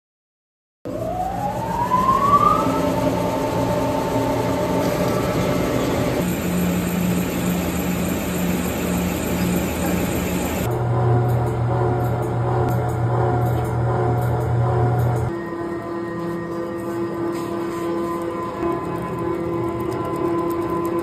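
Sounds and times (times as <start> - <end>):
mixer grinder motor whining: 0.9 - 21.0.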